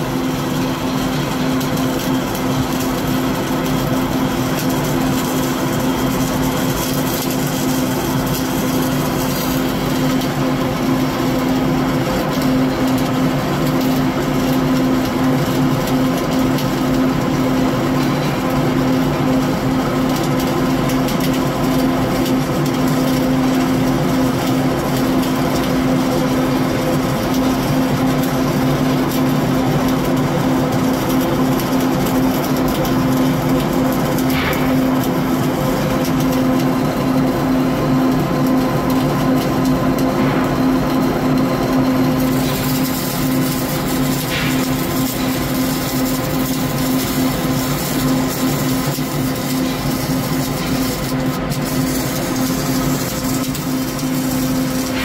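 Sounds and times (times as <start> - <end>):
steady low hum: 0.0 - 55.0
welding arc crackling: 0.0 - 55.0.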